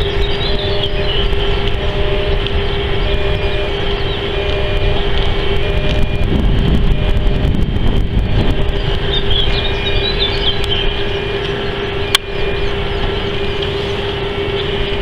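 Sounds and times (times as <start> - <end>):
high chirps: 0.0 - 6.3, 8.2 - 15.0
steady hum: 0.0 - 15.0
wind buffeting microphone: 0.0 - 15.0.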